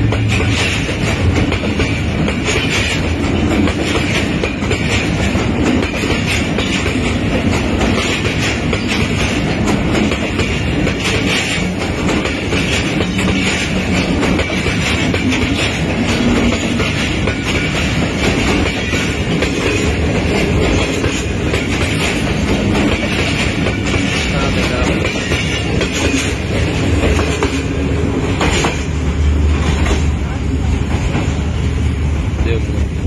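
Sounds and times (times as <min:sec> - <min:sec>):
low train rumble: 0:00.0 - 0:33.0
train wheels clattering on track: 0:00.0 - 0:33.0.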